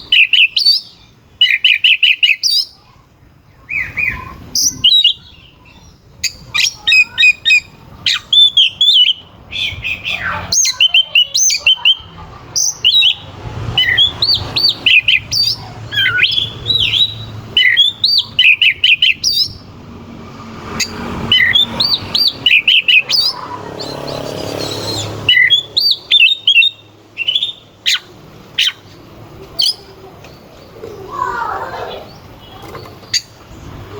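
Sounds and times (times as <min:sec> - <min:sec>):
songbird whistling and chirping: 0:00.0 - 0:19.7, 0:20.8 - 0:28.9.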